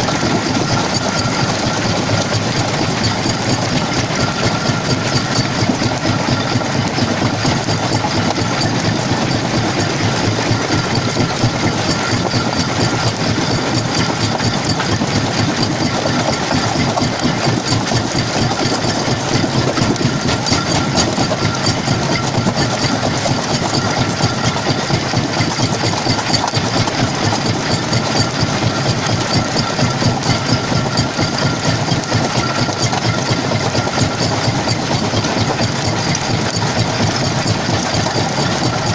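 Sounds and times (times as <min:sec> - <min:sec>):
crusher machine clatter: 0:00.0 - 0:38.9.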